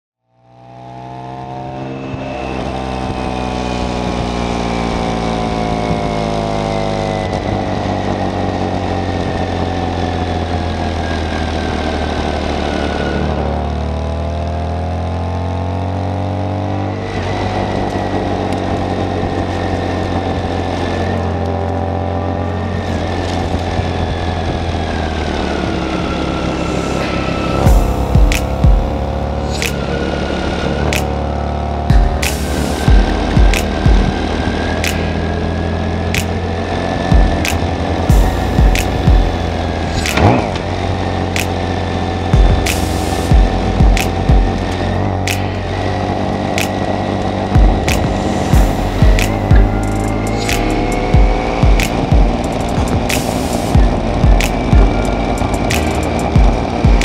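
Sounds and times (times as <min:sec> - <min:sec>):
motorcycle engine running: 0:00.3 - 0:57.0.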